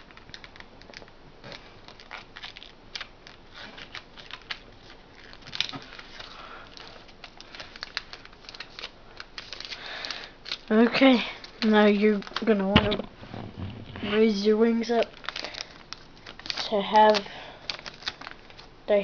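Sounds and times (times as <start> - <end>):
paper being folded and creased: 0.0 - 19.0.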